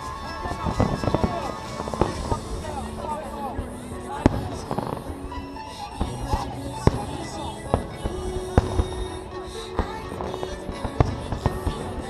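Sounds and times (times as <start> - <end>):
background music: 0.0 - 12.0
fireworks bursting: 0.0 - 12.0.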